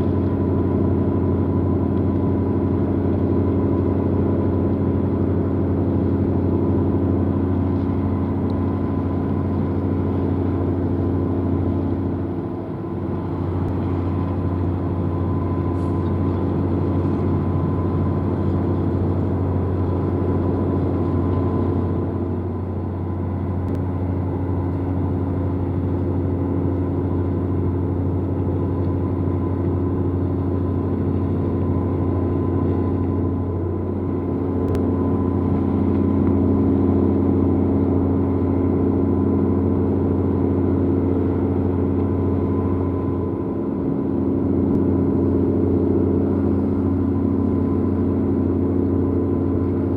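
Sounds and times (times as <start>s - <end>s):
large engine droning: 0.0s - 49.9s.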